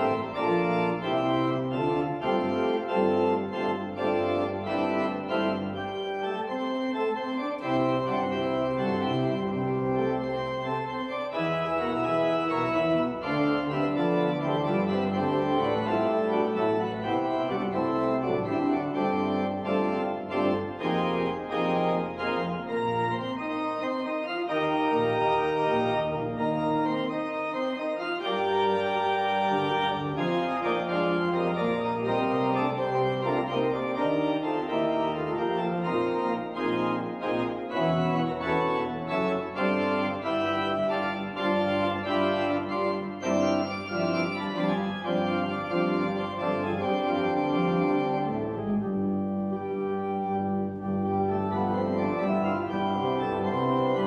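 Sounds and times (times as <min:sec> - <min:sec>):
church organ playing: 0:00.0 - 0:54.0.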